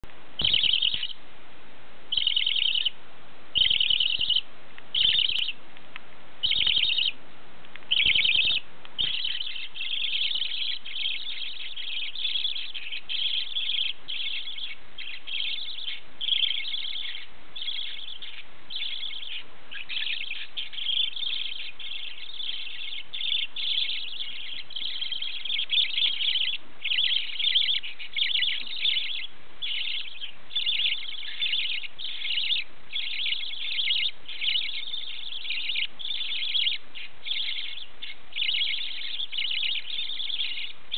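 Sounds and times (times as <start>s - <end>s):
budgerigars chirping: 0.4s - 1.2s, 2.1s - 5.6s, 6.4s - 7.2s, 7.9s - 40.9s.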